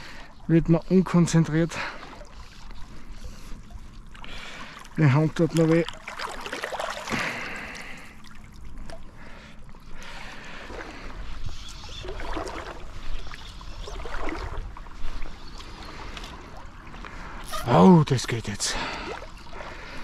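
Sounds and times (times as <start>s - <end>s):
river water flowing: 0.0s - 20.0s
water splashing and swishing: 0.0s - 20.0s.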